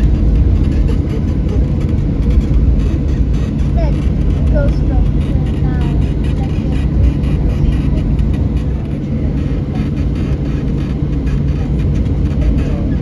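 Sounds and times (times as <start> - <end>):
faint voices: 0.0 - 13.0
low engine rumble inside vehicle: 0.0 - 13.0.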